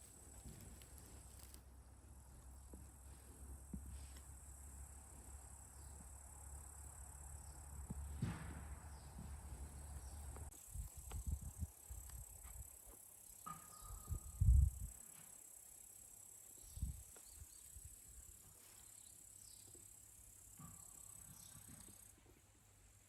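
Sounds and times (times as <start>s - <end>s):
crickets chirping: 0.0s - 22.2s.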